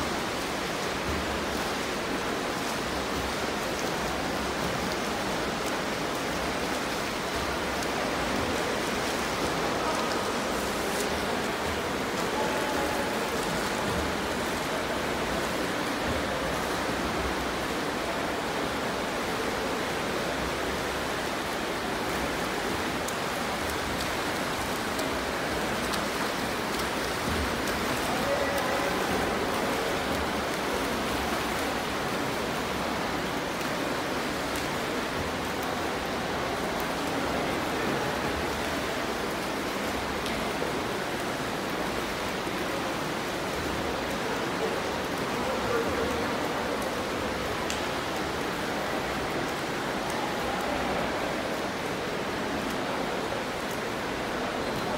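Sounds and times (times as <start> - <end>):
splashing water in pool: 0.1 - 44.2.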